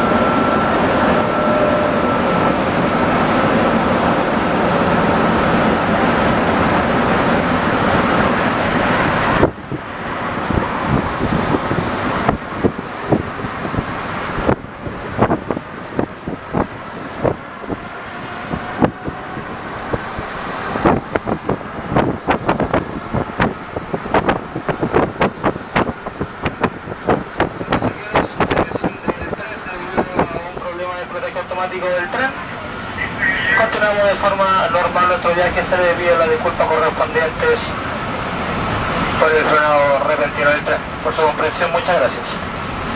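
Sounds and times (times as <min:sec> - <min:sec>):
metro train running noise: 0:00.0 - 0:42.9.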